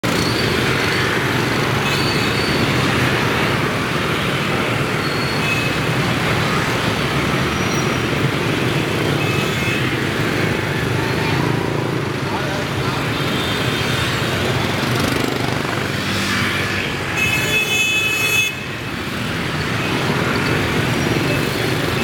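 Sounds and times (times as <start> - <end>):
motorbikes and scooters passing: 0.0 - 17.7, 18.6 - 22.0.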